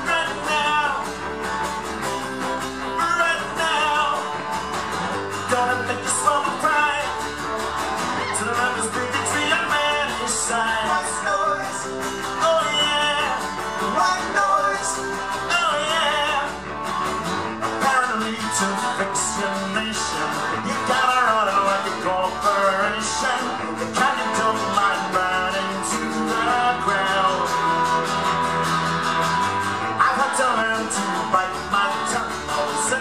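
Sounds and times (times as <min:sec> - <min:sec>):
man singing: 0:00.0 - 0:01.4, 0:02.8 - 0:04.6, 0:05.3 - 0:07.5, 0:08.1 - 0:16.7, 0:17.5 - 0:28.6, 0:29.8 - 0:33.0
strummed acoustic guitars: 0:00.0 - 0:33.0.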